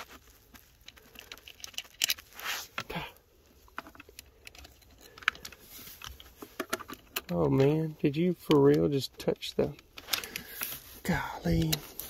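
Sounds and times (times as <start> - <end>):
wires clicking and rustling: 0.0 - 12.0.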